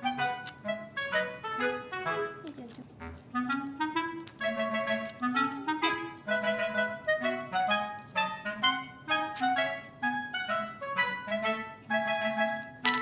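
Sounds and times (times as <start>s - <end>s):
bouncy woodwind melody: 0.0s - 13.0s.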